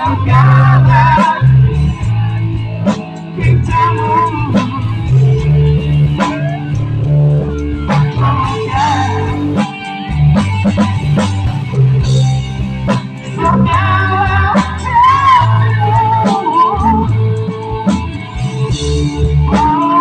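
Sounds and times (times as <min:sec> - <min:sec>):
bass guitar: 0:00.0 - 0:20.0
drums: 0:00.0 - 0:20.0
electric guitar melody: 0:00.0 - 0:20.0.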